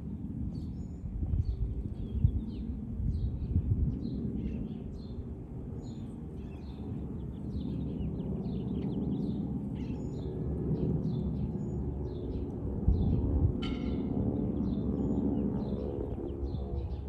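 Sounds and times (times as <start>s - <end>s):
small birds chirping: 0.5s - 17.0s.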